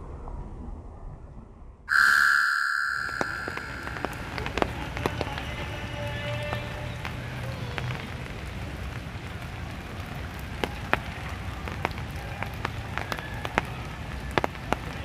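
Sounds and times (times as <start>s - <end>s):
rain falling on a pond: 1.9s - 15.0s
sharp drip ticks: 1.9s - 15.0s.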